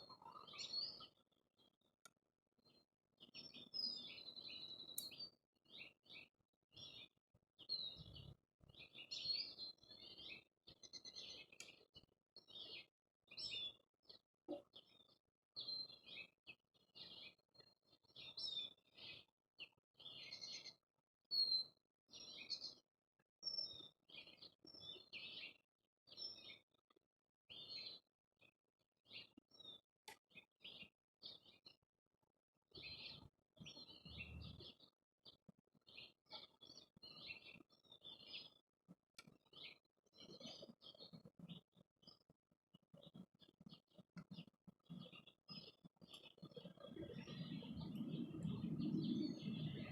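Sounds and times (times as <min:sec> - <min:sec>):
small songbirds chirping: 0:00.0 - 0:31.9, 0:32.6 - 0:49.9.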